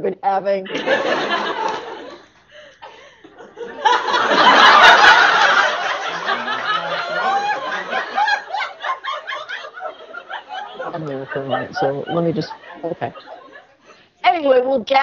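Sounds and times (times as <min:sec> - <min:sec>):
audience laughing: 0:00.7 - 0:02.3, 0:03.3 - 0:14.0.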